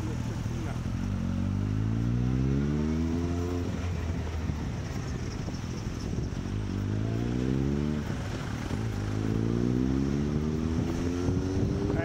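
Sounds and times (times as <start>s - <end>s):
motorcycle engine accelerating: 0.0s - 12.0s
road noise: 0.0s - 12.0s.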